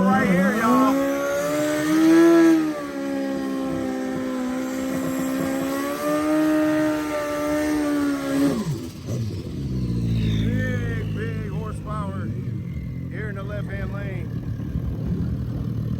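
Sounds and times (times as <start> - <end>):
drag racing engine at full throttle: 0.0 - 15.9.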